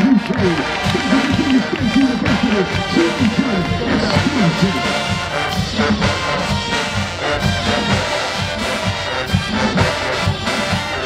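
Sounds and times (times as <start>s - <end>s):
brass and sousaphones: 0.0s - 11.0s
marching drumline: 0.0s - 11.0s.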